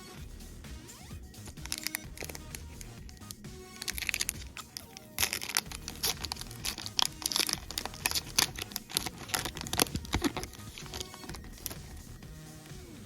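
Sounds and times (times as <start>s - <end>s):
wrapper crinkling and tearing: 1.5s - 12.0s.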